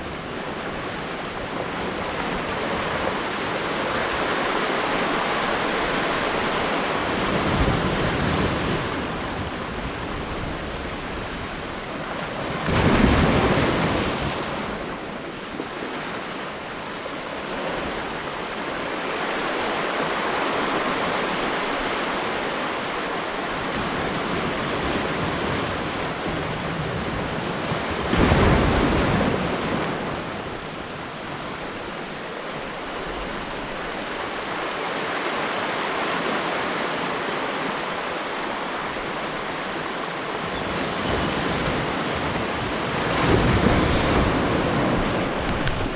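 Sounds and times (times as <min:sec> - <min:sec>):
water rushing: 0:00.0 - 0:26.7, 0:27.5 - 0:45.9.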